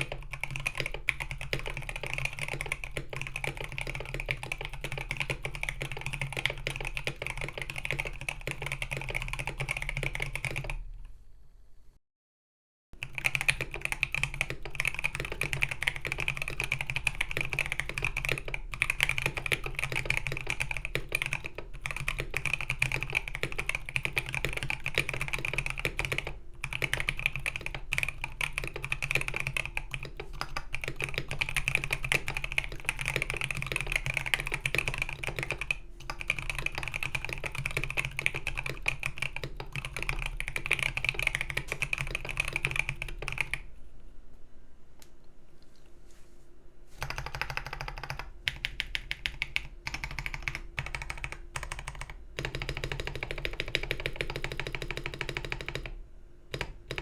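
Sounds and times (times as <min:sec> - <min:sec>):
fast keyboard typing clacks: 0:00.0 - 0:10.8, 0:13.0 - 0:43.6, 0:47.0 - 0:57.0.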